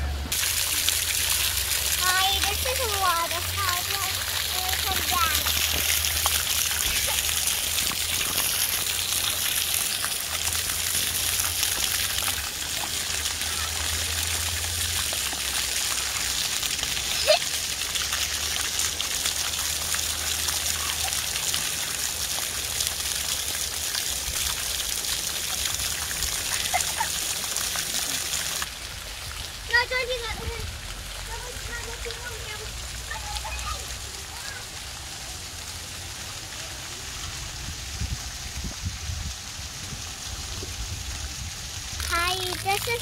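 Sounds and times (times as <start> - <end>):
water jets spraying onto paving: 0.0 - 43.0.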